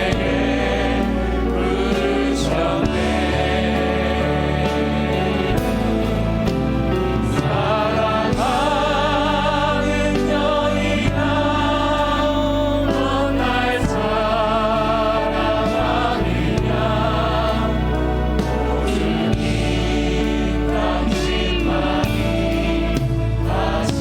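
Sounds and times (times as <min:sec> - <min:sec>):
worship band music: 0:00.0 - 0:24.0.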